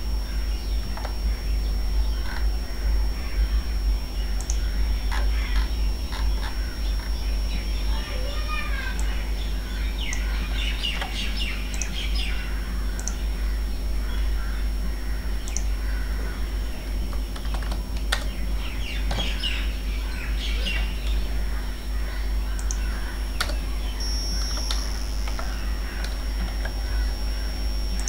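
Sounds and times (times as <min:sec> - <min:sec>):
steady low hum: 0:00.0 - 0:28.0
birds chirping: 0:00.2 - 0:28.0.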